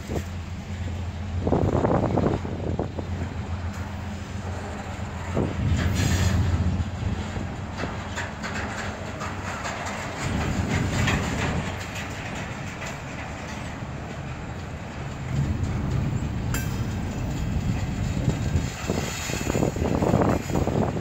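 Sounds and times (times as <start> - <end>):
freight train wheels rumbling: 0.0 - 21.0
train wheels clacking: 0.0 - 21.0.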